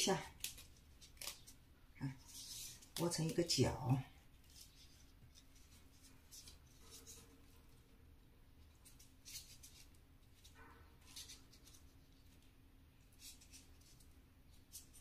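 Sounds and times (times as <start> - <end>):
leaves crinkling as folded: 0.0 - 15.0.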